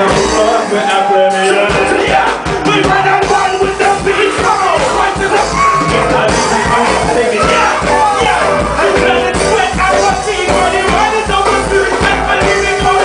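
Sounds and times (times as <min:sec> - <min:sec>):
drums: 0:00.0 - 0:13.0
live rock band: 0:00.0 - 0:13.0
yelled sung vocals: 0:00.0 - 0:13.0.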